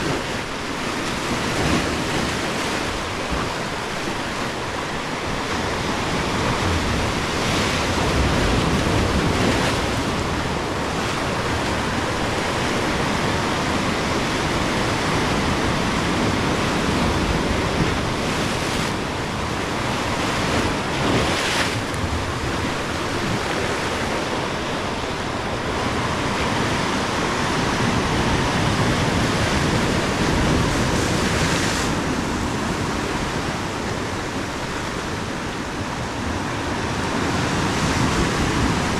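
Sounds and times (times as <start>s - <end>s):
ocean surf breaking on rocks: 0.0s - 38.9s.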